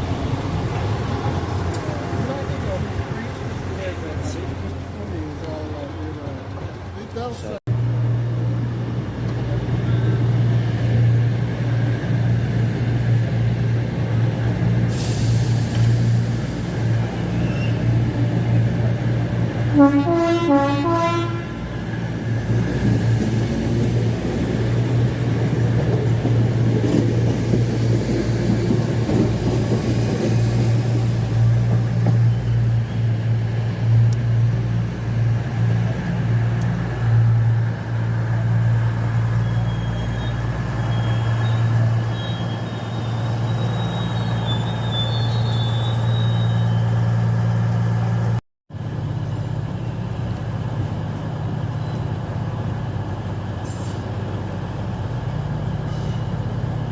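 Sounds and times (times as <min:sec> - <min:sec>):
train low drone: 0:00.0 - 0:56.9.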